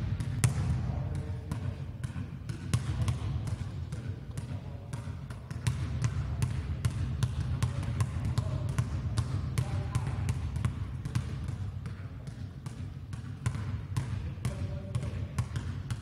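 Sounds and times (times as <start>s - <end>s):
basketball bouncing on gym floor: 0.0s - 16.0s.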